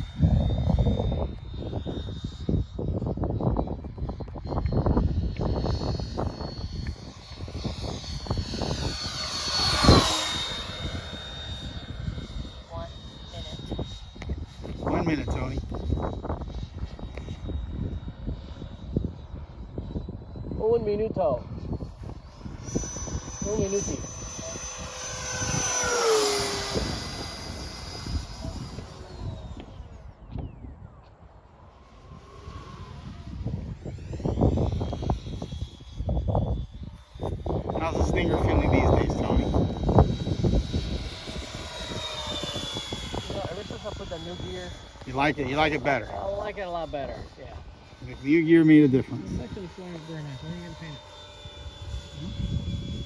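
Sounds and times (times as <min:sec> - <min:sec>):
model jet fan whining: 0:00.0 - 0:53.0
wind buffeting microphone: 0:00.0 - 0:53.0.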